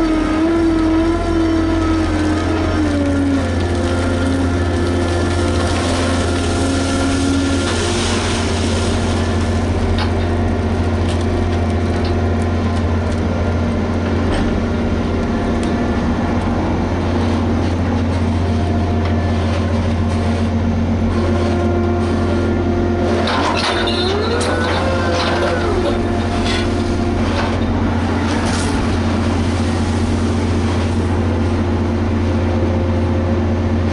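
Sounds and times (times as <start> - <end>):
excavator diesel engine drone: 0.0 - 33.9.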